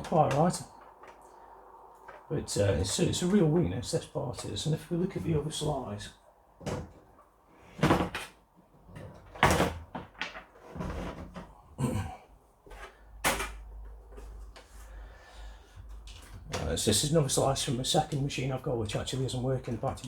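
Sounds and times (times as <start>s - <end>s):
quiet rustling: 0.0s - 20.0s.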